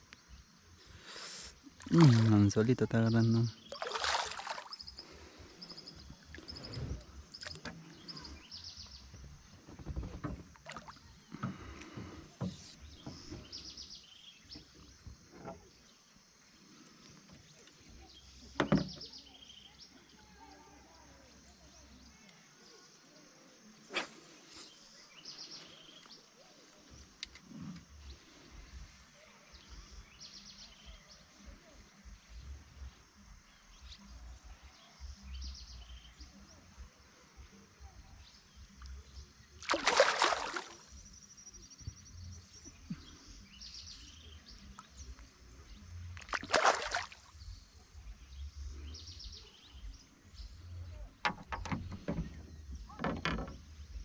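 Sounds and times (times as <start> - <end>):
faint outdoor background: 0.0 - 54.0.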